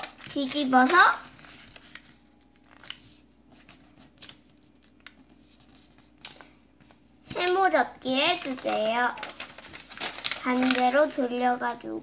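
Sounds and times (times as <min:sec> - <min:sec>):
paper rustling and folding: 0:00.0 - 0:11.5.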